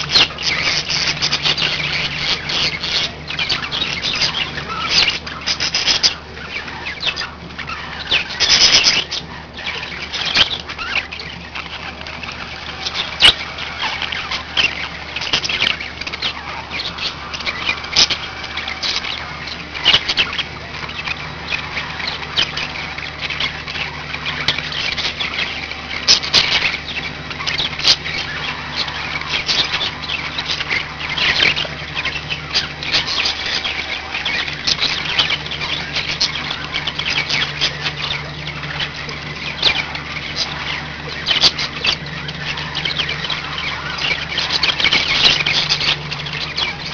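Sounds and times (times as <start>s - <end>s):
budgerigars chattering: 0.0s - 46.9s
steady low hum: 0.0s - 46.9s.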